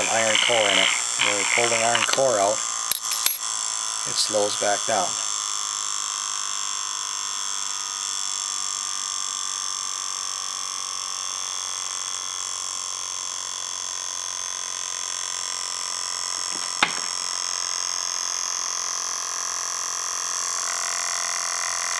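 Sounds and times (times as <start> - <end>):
small motor buzzing: 0.0 - 3.4, 4.6 - 21.9.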